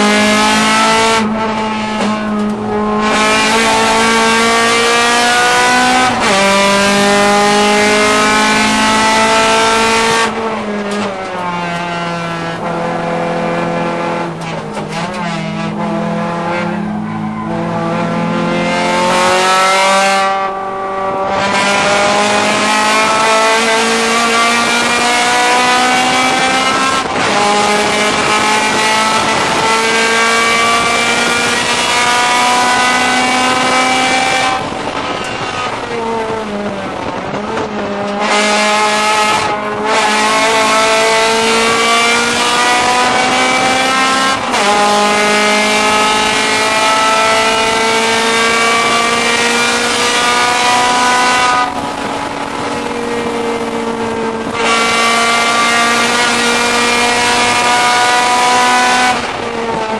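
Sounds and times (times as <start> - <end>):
car engine revving through gears: 0.0 - 59.9.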